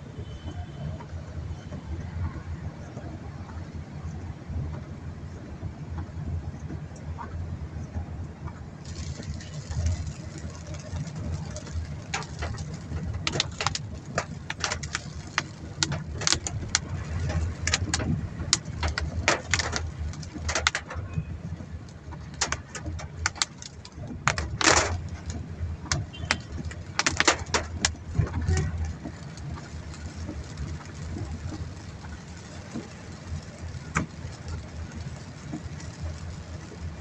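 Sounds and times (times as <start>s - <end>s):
engine and road rumble: 0.0s - 37.0s
raindrops tapping on car: 0.4s - 37.0s.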